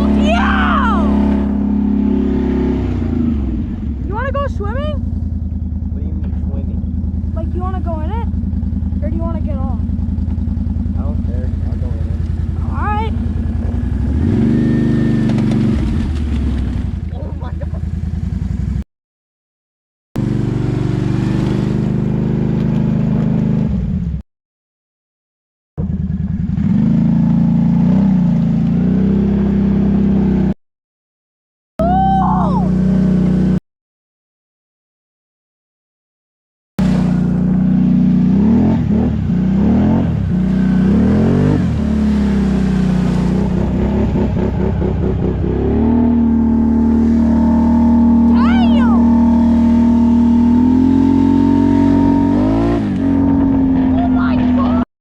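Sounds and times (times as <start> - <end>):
atv engine revving: 0.0 - 18.8, 20.2 - 24.2, 25.8 - 30.6, 31.8 - 33.6, 36.8 - 54.9.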